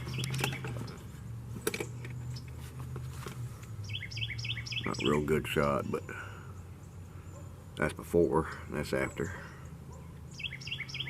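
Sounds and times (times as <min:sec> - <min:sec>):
small bird chirping: 0:00.0 - 0:02.6, 0:03.7 - 0:07.8, 0:08.4 - 0:11.0.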